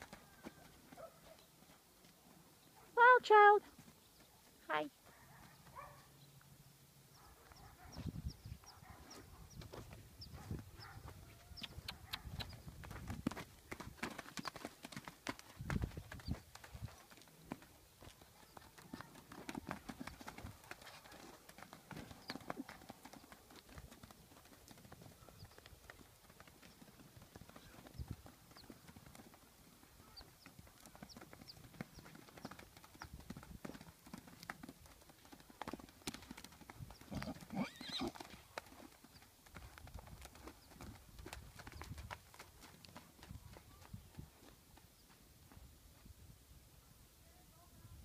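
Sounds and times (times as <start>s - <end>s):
hoofbeats on dirt: 0.0s - 6.1s, 7.2s - 46.2s.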